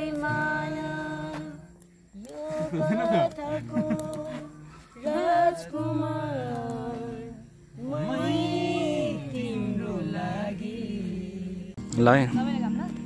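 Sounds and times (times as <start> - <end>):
woman singing sliding phrases: 0.0 - 11.8.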